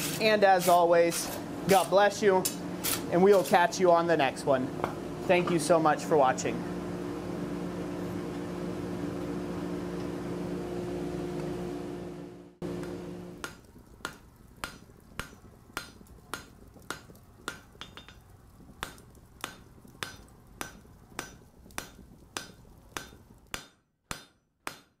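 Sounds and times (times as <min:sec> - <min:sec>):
low background hum: 0:00.0 - 0:23.5.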